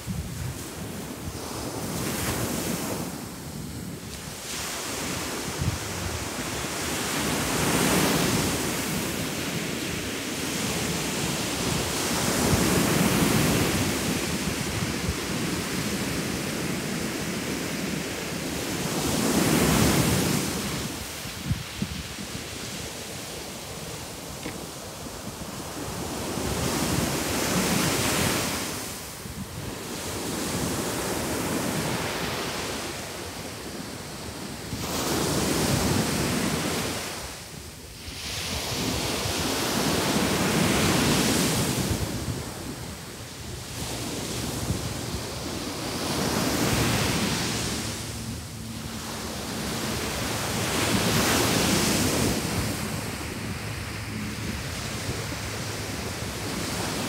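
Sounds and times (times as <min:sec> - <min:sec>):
ocean surf washing onto sand: 0:00.0 - 0:57.0
wind on microphone: 0:00.0 - 0:57.0.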